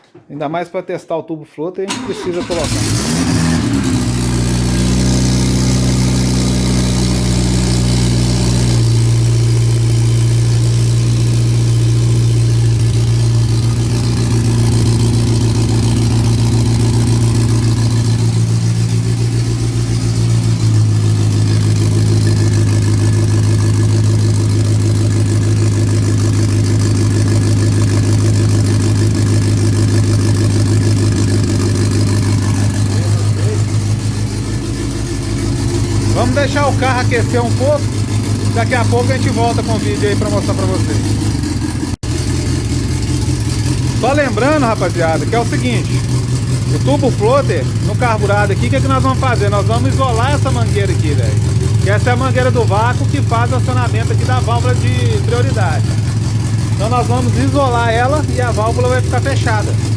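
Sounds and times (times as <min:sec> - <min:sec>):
car engine idling: 0:01.9 - 0:59.9.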